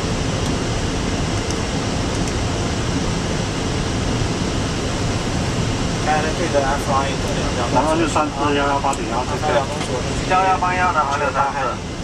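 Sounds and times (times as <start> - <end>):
air streaming past cockpit: 0.0 - 12.0
air-conditioning blowing: 0.0 - 12.0.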